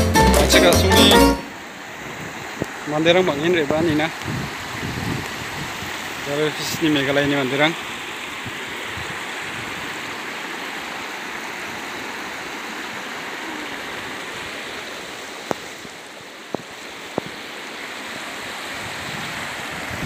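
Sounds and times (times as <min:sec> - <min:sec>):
stream rushing over stones: 0:00.5 - 0:20.0.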